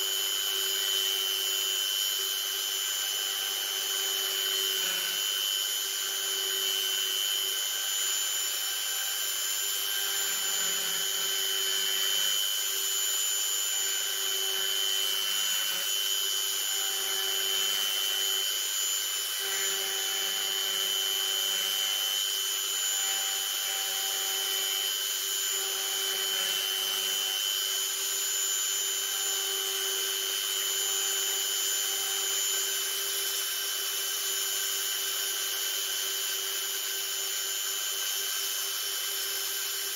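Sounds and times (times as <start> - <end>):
small motor whining: 0.0 - 39.9.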